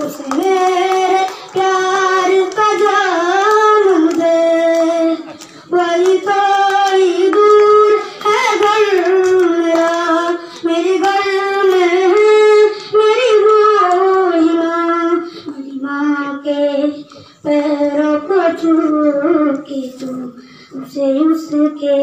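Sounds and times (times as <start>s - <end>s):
boy singing unaccompanied: 0.0s - 22.0s.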